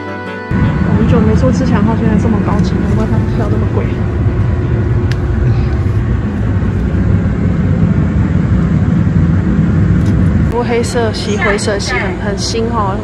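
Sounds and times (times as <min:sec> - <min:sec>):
train running rumble: 0:00.5 - 0:13.0.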